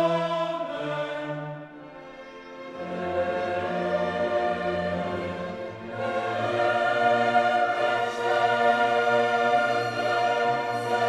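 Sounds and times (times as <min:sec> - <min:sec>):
orchestral and choral music: 0:00.0 - 0:11.0.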